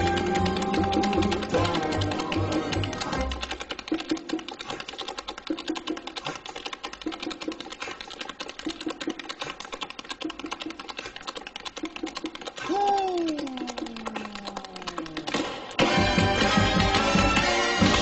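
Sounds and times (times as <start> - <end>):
tap-dance taps: 0.0 - 18.0.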